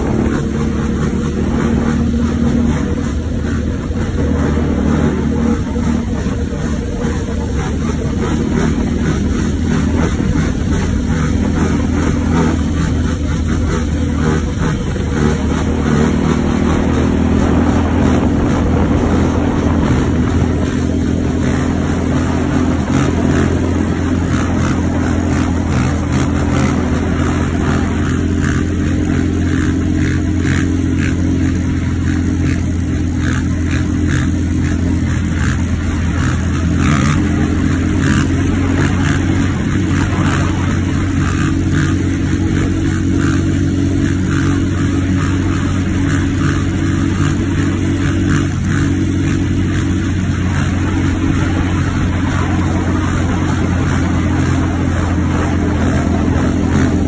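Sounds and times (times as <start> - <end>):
atv engine running loud: 0.0 - 57.0.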